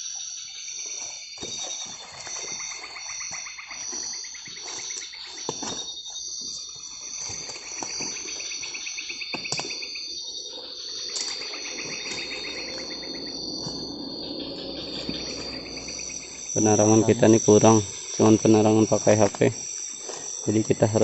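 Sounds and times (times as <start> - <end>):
crickets buzzing: 0.0 - 21.0
pulsing insect trills: 0.0 - 21.0.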